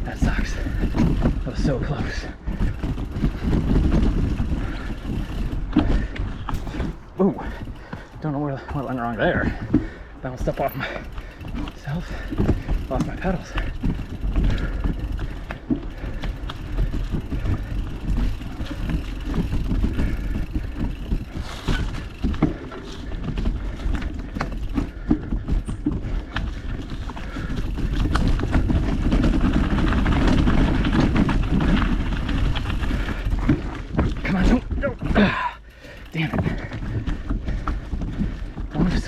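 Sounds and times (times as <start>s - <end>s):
bike knocking and clattering: 0.0s - 39.0s
bike tyres on dirt and rock: 0.0s - 39.0s.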